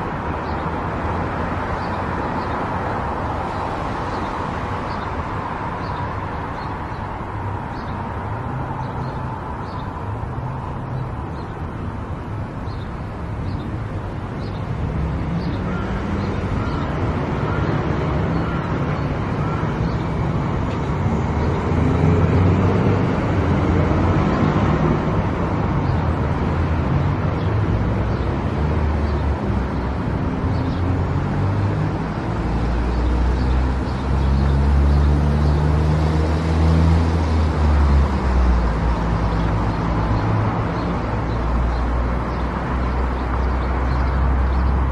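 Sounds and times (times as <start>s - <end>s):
car engine and tyre noise: 0.0s - 44.9s.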